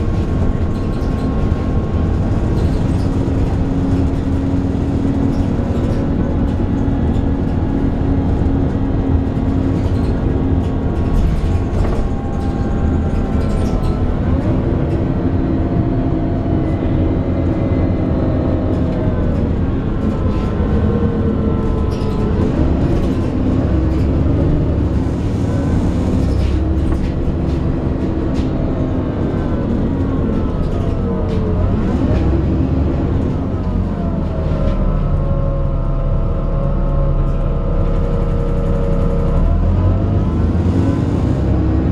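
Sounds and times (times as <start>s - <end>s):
bus drivetrain rumble: 0.0s - 41.9s.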